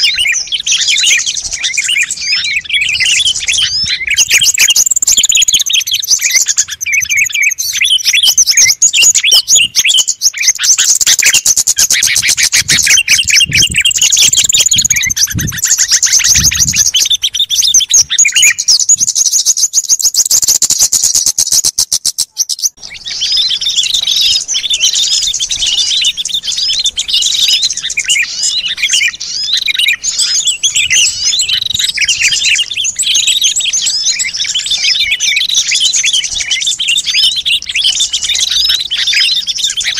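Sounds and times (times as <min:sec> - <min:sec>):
small birds chirping chorus: 0:00.0 - 0:39.9.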